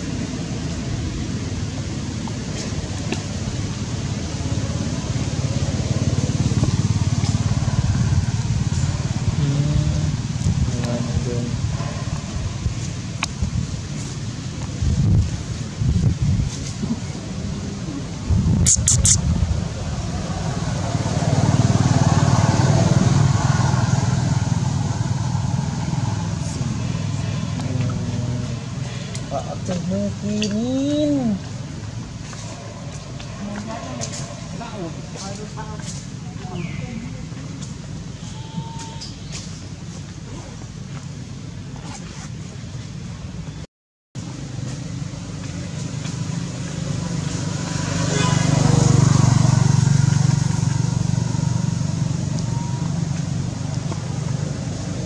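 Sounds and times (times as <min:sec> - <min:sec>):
vehicle engine running: 0:00.0 - 0:38.4, 0:44.2 - 0:55.0.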